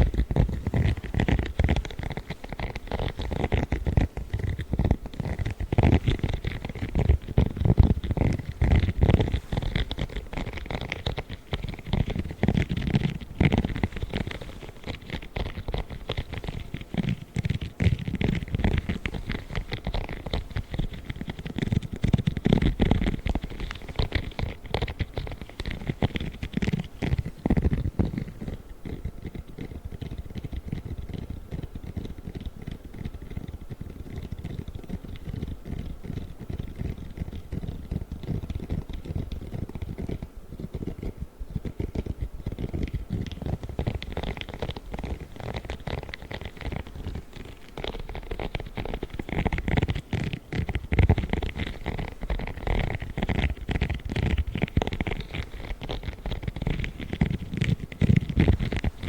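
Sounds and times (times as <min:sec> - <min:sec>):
rubber gloves crackling: 0:00.0 - 0:59.0.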